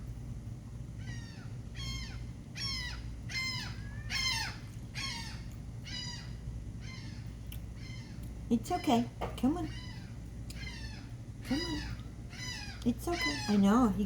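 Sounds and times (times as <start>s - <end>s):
gull calling: 1.0s - 14.0s.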